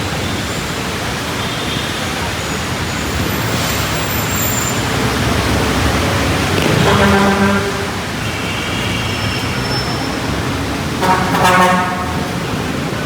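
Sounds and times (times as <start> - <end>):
rain on wet street: 0.0 - 13.0
road traffic noise: 0.0 - 13.0.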